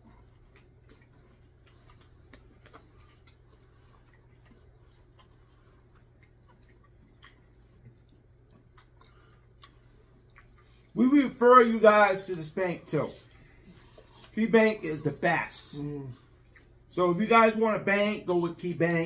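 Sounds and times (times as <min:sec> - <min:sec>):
low steady hum: 0:00.0 - 0:19.0
people quietly chewing food: 0:00.0 - 0:19.0.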